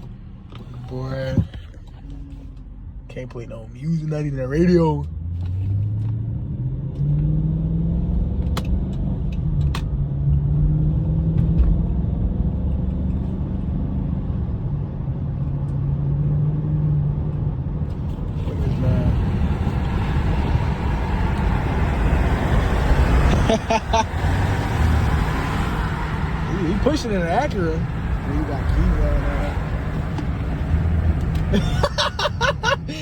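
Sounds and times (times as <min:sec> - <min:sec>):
car engine drone in cabin: 0:00.0 - 0:33.0
road and wind noise: 0:00.0 - 0:33.0.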